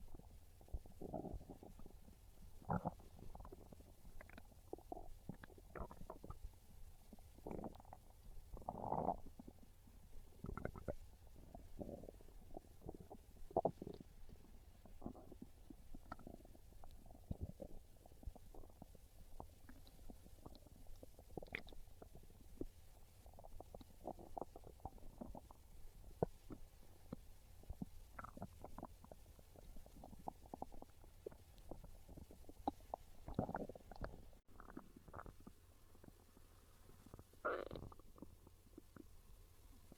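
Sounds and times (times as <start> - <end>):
stomach growling: 0.0 - 39.9.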